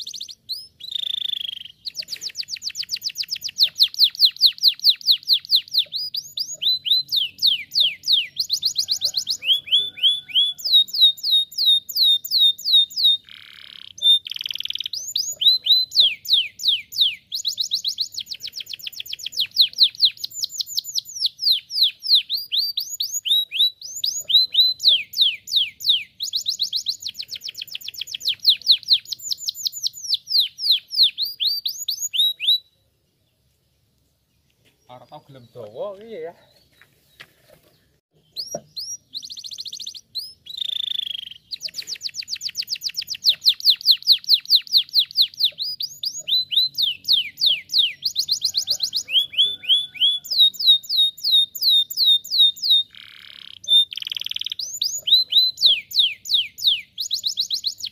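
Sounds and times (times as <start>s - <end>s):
canary singing trills: 0.0s - 36.8s, 37.7s - 57.9s.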